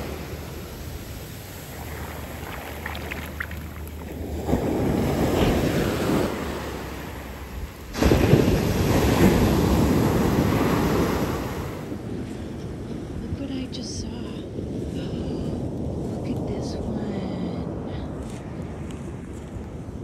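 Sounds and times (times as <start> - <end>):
ocean waves breaking on shore: 0.0 - 16.4
wind buffeting microphone: 0.0 - 20.0.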